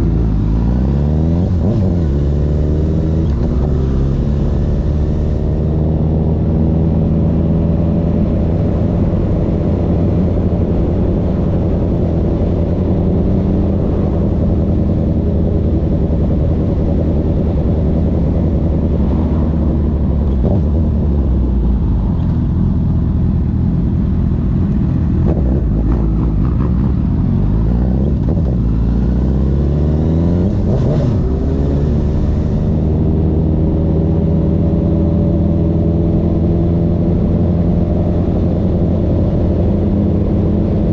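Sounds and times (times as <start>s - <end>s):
motorcycle engine running: 0.0s - 35.5s.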